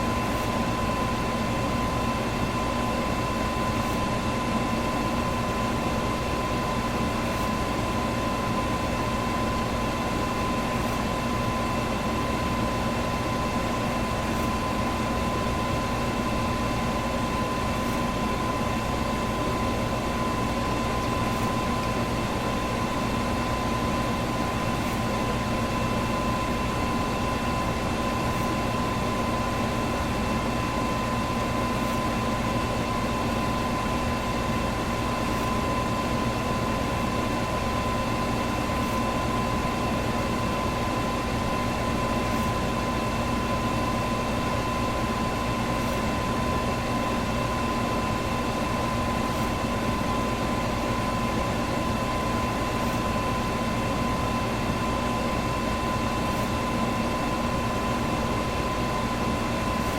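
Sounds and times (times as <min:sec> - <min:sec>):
fan whining hum: 0:00.0 - 0:59.9.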